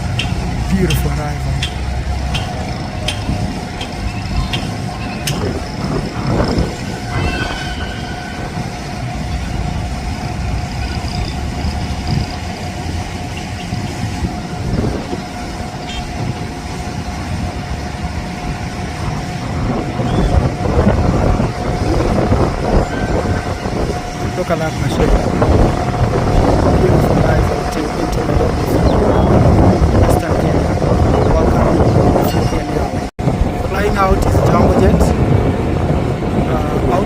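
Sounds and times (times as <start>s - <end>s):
jet engines rumbling and whining: 0.0s - 37.0s.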